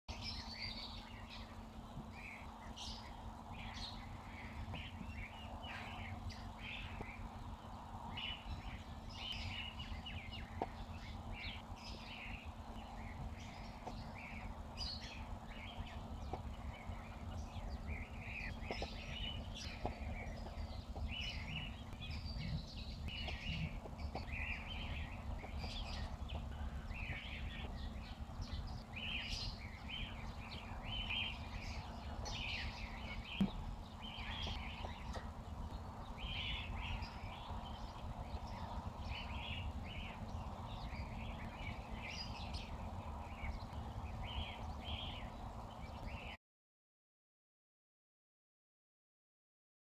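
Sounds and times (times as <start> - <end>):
low rumble: 0.1 - 46.4
small birds chirping: 0.1 - 46.4.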